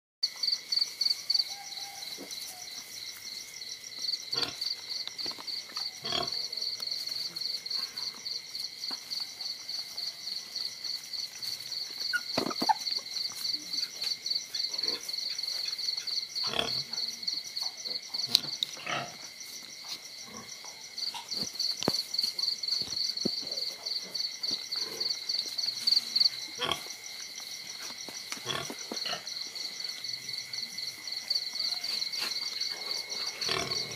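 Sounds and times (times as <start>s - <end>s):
insects chirping: 0.2s - 33.9s.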